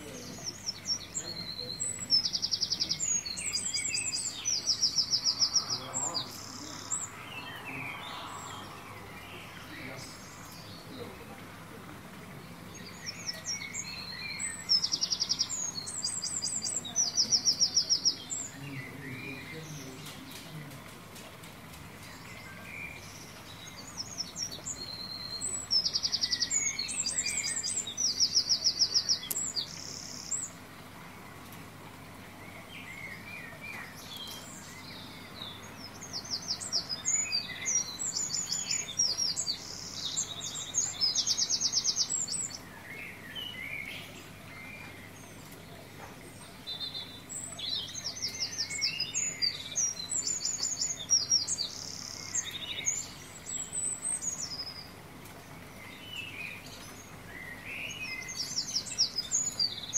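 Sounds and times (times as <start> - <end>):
soft bird chirps: 0.0 - 20.9, 22.0 - 59.9
songbirds trilling: 0.0 - 59.9.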